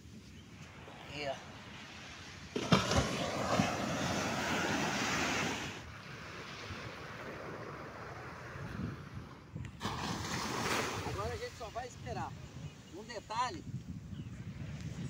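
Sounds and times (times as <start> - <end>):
waves washing onto sand: 0.0 - 13.0
wind on microphone: 0.0 - 15.0.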